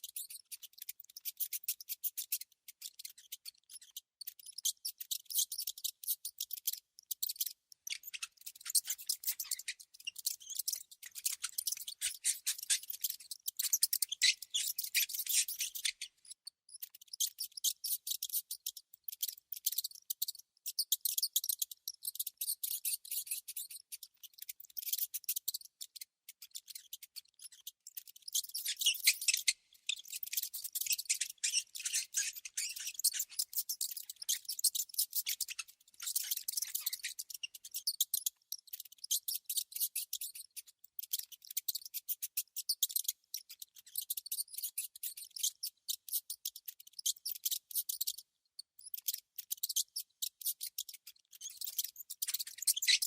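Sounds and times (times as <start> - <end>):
rats clicking and squeaking: 0.0 - 53.0.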